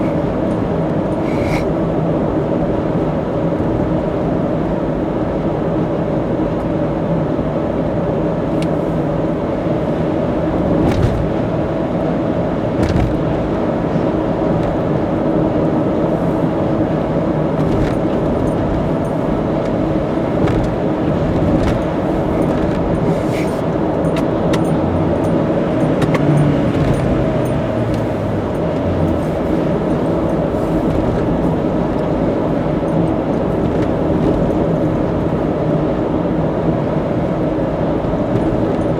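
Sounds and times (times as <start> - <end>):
tyre and road drone: 0.0 - 2.0, 9.5 - 38.9
car engine hum: 0.0 - 38.9.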